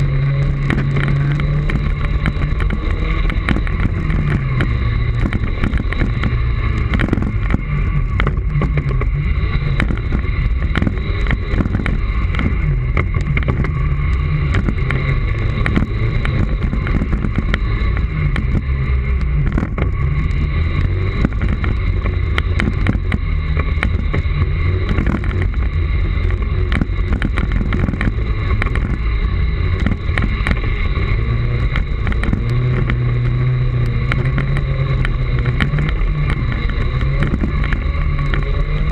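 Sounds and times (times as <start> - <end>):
electric drive whine: 0.0 - 38.9
knocks and rattles: 0.0 - 38.9
tyres rumbling on dirt: 0.0 - 38.9.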